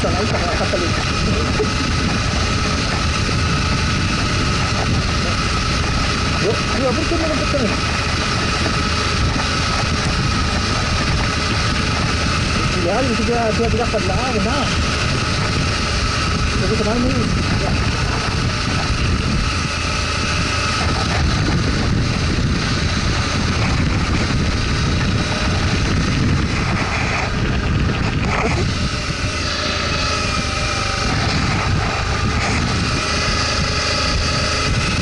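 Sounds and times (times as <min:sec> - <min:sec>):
motorcycle engine cruising: 0:00.0 - 0:35.0
wind and road noise: 0:00.0 - 0:35.0.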